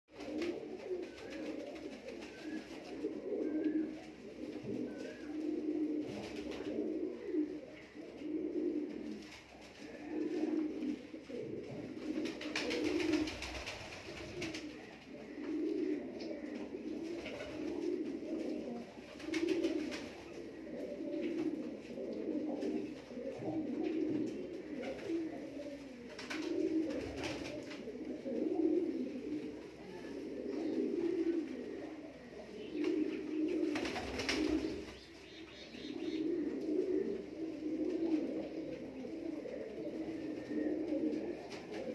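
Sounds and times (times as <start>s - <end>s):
pigeons cooing: 0.1s - 41.9s.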